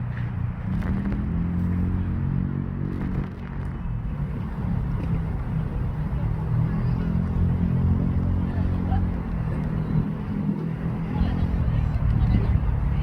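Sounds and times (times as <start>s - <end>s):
low engine rumble: 0.0s - 13.0s
low hum: 0.8s - 13.0s.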